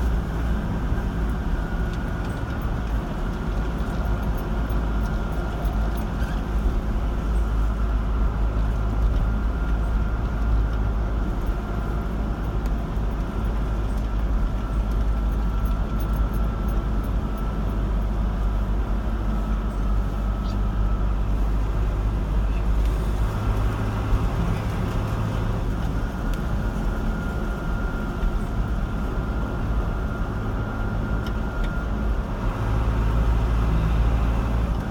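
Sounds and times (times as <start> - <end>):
car engine and tyre noise: 0.0 - 34.9
faint steady whine: 0.0 - 34.9.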